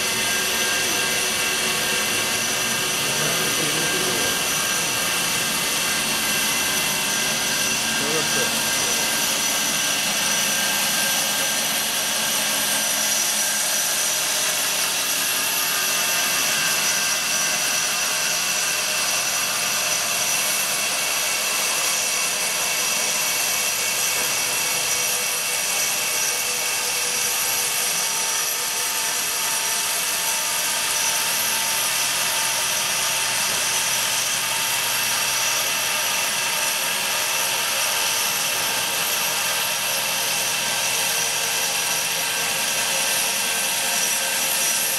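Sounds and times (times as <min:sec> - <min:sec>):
foam cutter machine whine: 0:00.0 - 0:44.9.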